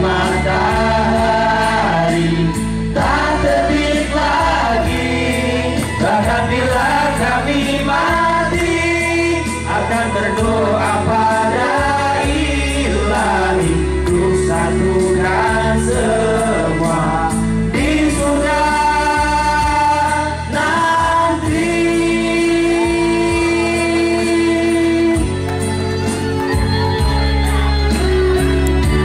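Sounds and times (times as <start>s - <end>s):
mixed vocal group singing: 0.0s - 27.2s
musical accompaniment: 0.0s - 29.0s.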